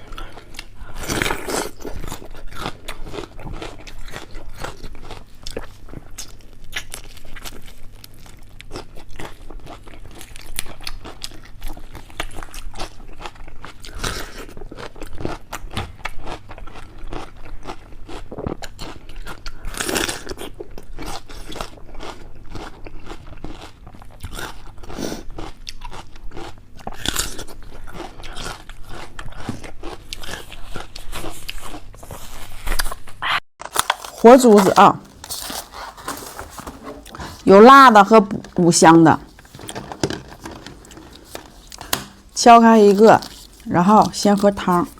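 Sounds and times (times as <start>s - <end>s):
crunching and chewing food: 0.0s - 44.9s.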